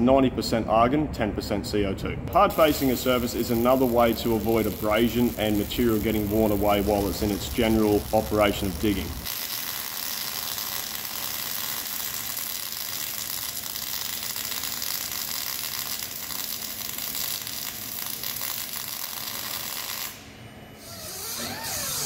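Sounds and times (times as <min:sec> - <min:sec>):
welding arc crackling and hissing: 0:02.3 - 0:22.0.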